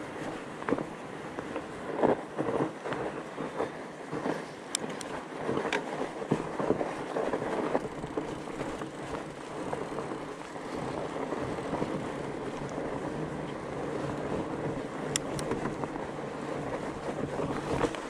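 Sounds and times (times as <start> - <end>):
bike rattles and knocks: 0.0 - 18.0
bike tyres rumbling on trail: 0.0 - 18.0.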